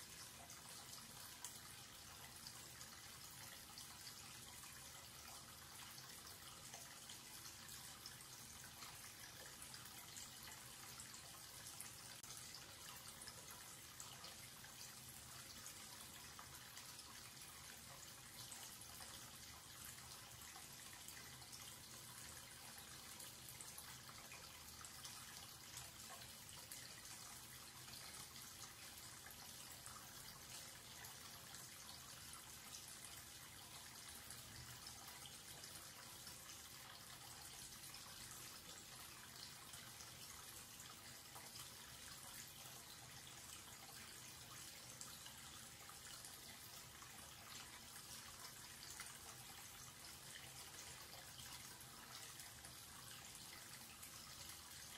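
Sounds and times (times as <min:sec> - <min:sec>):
tap water running into basin: 0:00.0 - 0:54.9.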